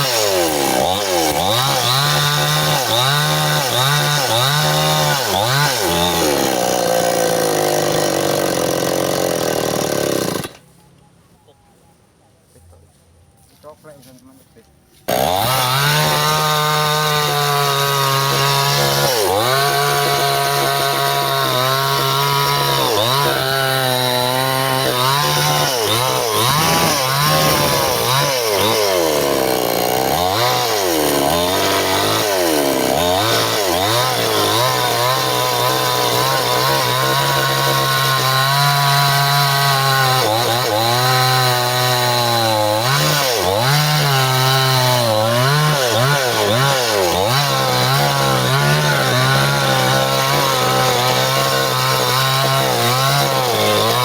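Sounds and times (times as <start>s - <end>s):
chainsaw cutting wood: 0.0s - 10.7s, 15.0s - 54.0s.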